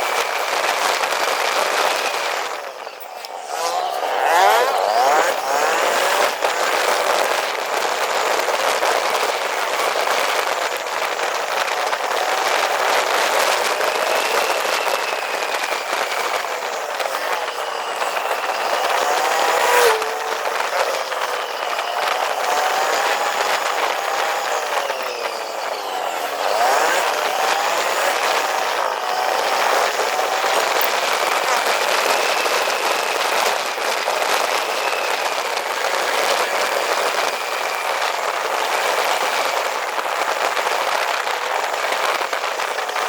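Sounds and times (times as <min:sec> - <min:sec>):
vehicle road and engine noise: 0:00.0 - 0:43.0.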